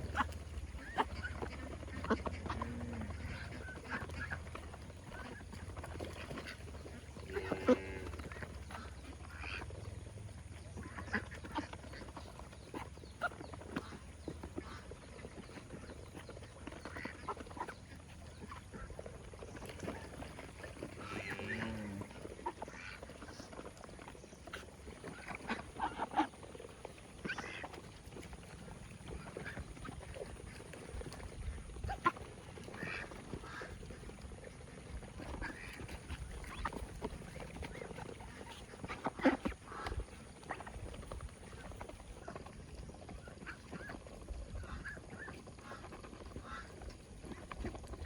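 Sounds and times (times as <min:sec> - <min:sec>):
ducks quacking: 0:00.0 - 0:48.0.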